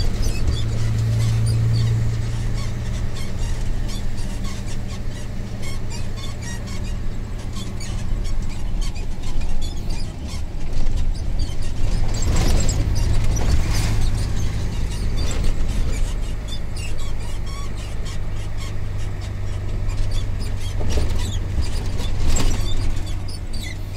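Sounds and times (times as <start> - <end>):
truck diesel engine droning: 0.0 - 23.9.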